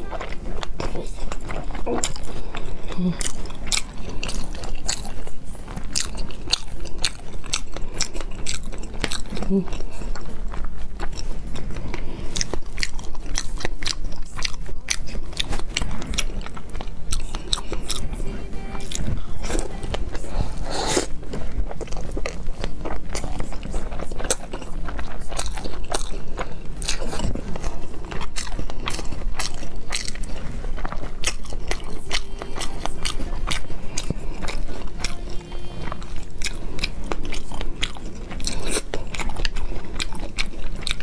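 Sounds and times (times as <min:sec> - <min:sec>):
chewing sushi with mouth clicks: 0:00.0 - 0:41.0.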